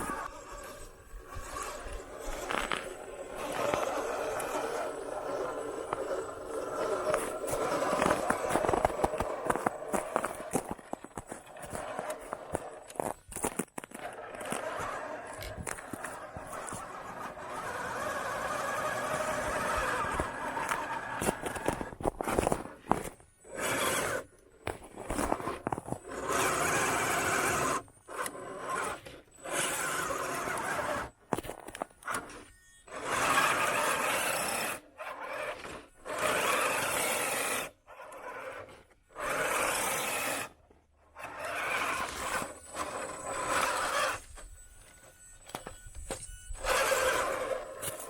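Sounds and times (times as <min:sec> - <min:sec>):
drivetrain and tyres scraping: 0:00.0 - 0:48.0
radio-controlled truck motor bursts: 0:00.0 - 0:48.0.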